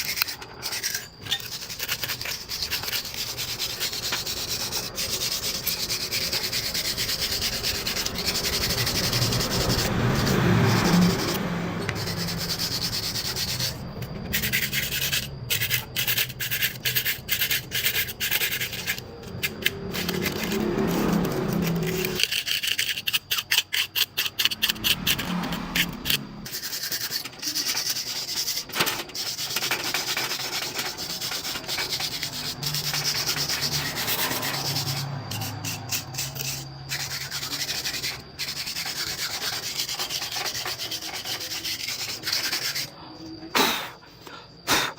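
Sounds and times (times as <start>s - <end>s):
hand sanding strokes: 0.0s - 23.0s, 26.0s - 42.9s.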